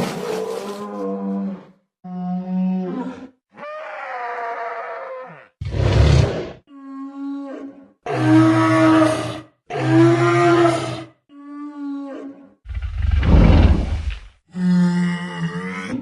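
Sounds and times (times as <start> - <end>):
dinosaur roars and moans: 0.0 - 16.0.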